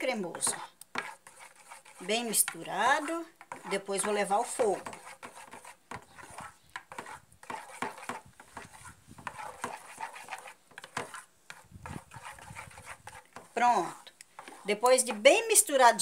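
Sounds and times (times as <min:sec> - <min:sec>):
spoon scraping metal pan: 0:00.0 - 0:16.0.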